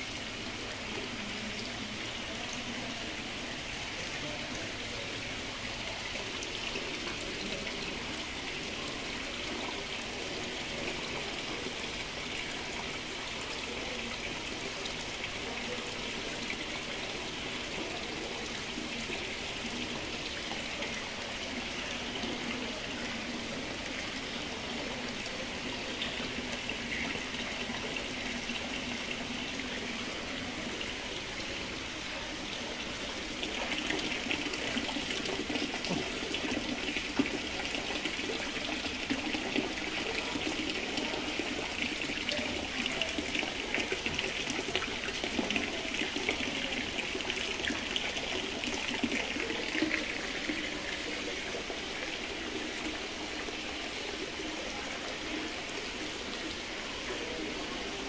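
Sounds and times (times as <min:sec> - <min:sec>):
water splashing and trickling: 0:00.0 - 0:58.0.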